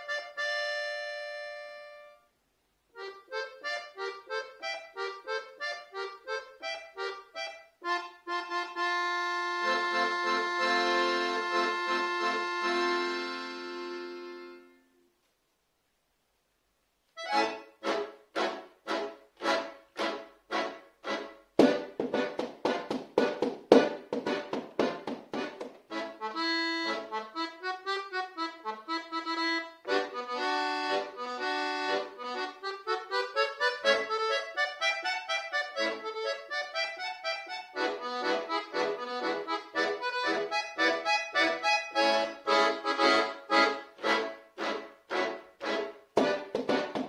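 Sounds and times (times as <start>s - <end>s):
solo accordion playing: 0.0s - 2.3s, 3.0s - 15.0s, 17.2s - 47.0s.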